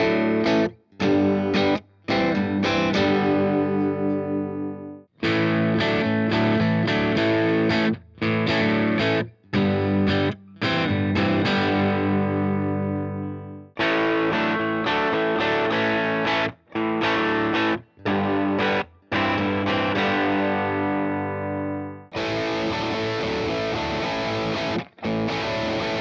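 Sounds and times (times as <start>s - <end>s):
overdriven electric guitar riff: 0.0s - 26.0s.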